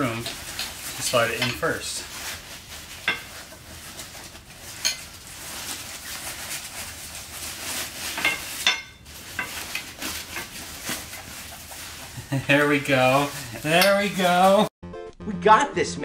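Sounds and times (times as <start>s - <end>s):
fabric cover rustling and scraping: 0.0s - 14.7s.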